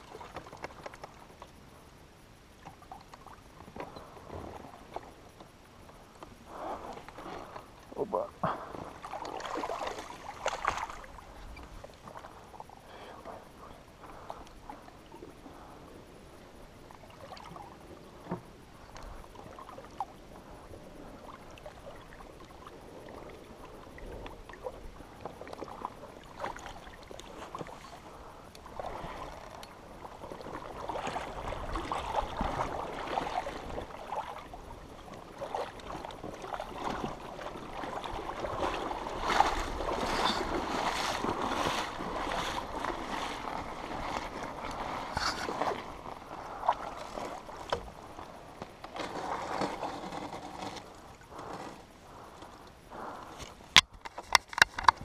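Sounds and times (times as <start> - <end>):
water sloshing and splashing: 0.0 - 1.4, 2.6 - 52.6.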